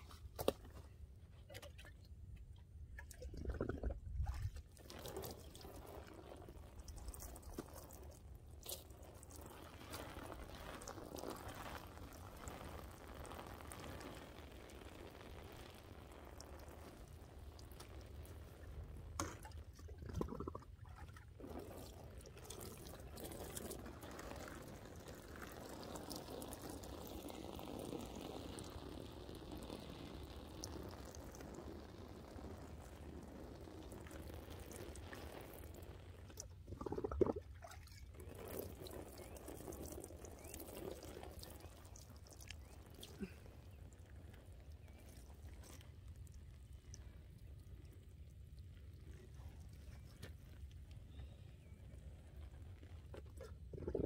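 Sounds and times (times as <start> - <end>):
water trickling onto soil: 0.0 - 54.0.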